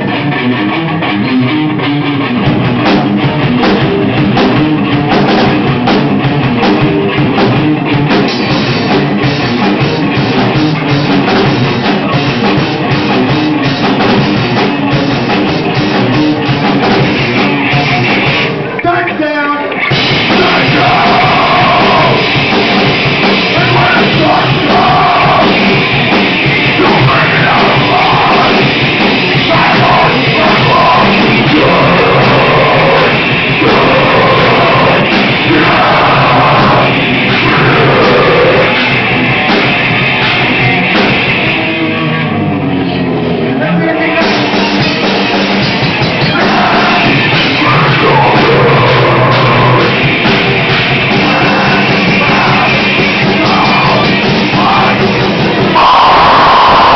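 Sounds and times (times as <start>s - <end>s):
rock band playing heavy music: 0.0s - 56.9s.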